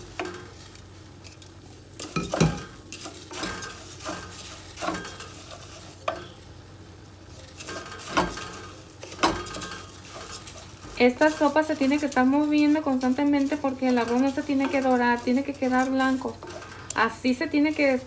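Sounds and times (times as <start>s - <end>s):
wooden spoon scraping pot: 0.0s - 6.4s, 7.3s - 18.0s
butter sizzling: 0.0s - 18.0s.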